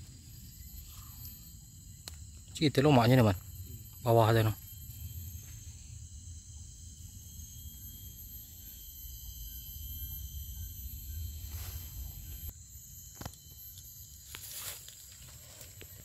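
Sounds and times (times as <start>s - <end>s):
forest insects chorus: 0.0s - 16.0s.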